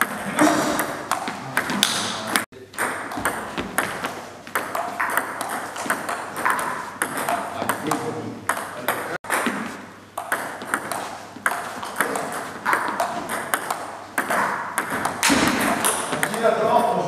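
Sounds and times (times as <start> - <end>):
distant table tennis rally: 0.0 - 17.0.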